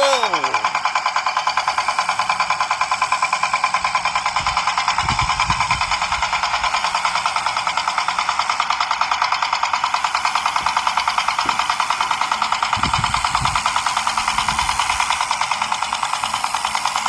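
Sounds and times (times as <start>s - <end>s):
small model motor pulsing: 0.0s - 8.8s, 9.8s - 17.0s.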